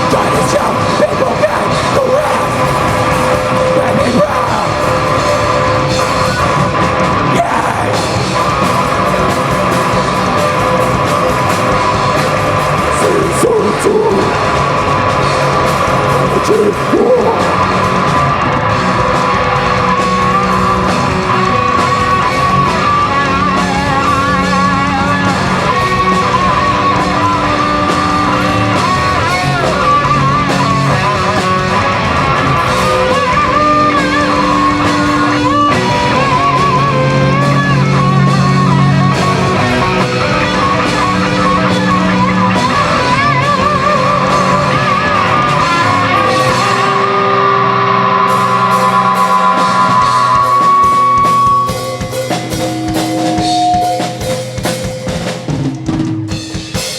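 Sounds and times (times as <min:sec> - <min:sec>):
bass notes: 0:00.0 - 0:56.9
electric guitar lead line: 0:00.0 - 0:56.9.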